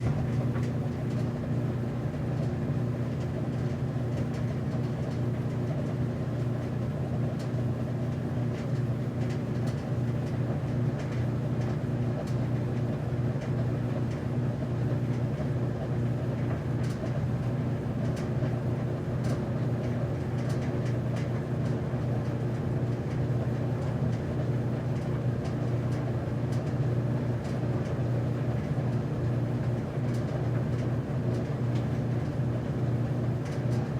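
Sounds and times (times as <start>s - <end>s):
washer-dryer drum humming: 0.0s - 33.9s.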